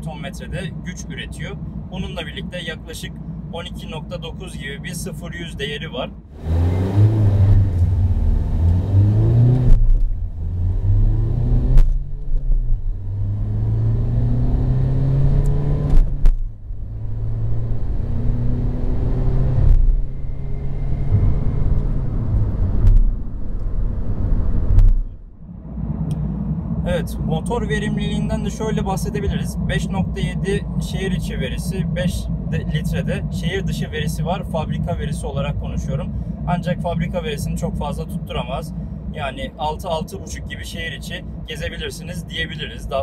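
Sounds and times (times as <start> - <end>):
diesel engine accelerating: 0.0 - 43.0.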